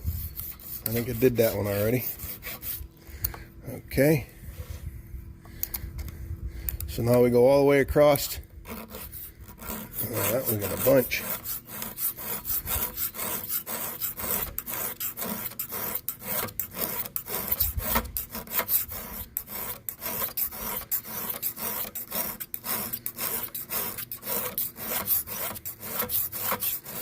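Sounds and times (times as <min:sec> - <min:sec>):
file rasping on metal chain: 0:00.0 - 0:02.8, 0:08.2 - 0:27.0.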